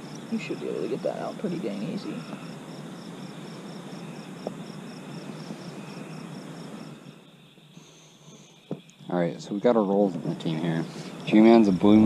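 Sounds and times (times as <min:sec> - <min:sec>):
faint rustling hiss: 0:00.0 - 0:12.0
night insects chirping: 0:00.0 - 0:12.0.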